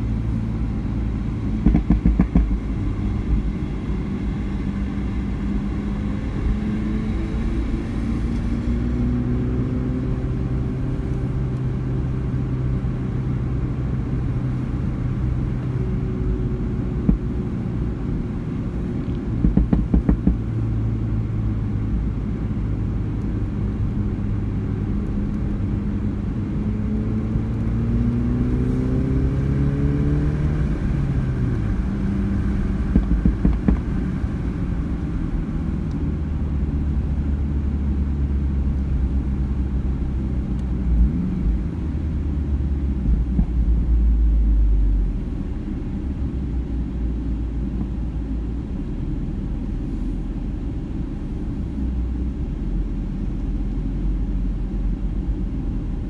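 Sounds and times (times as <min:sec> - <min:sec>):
car engine running: 0:00.0 - 0:56.0
road and tyre noise: 0:00.0 - 0:56.0.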